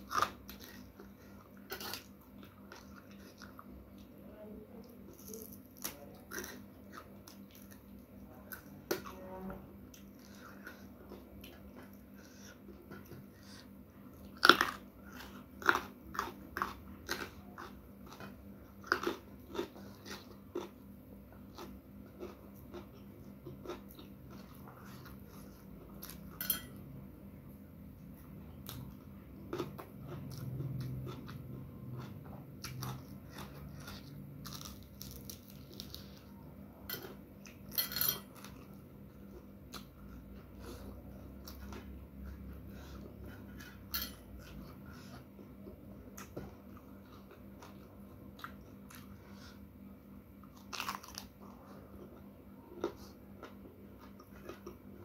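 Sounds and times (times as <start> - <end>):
crunching and chewing food: 0.0 - 55.0.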